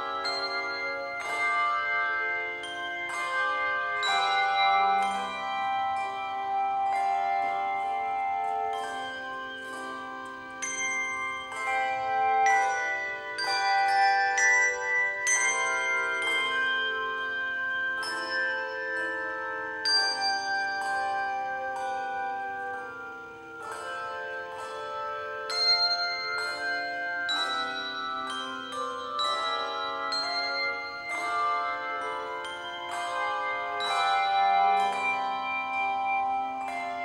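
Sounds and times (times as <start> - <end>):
handbells ringing chords: 0.0 - 37.0.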